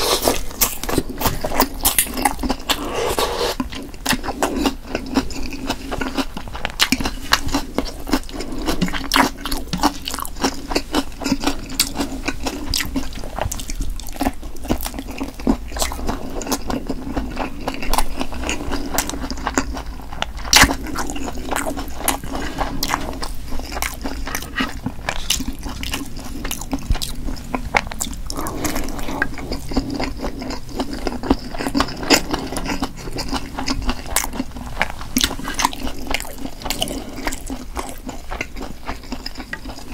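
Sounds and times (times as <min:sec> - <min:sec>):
close chewing and biting: 0:00.0 - 0:39.9
steady low hum: 0:00.0 - 0:39.9.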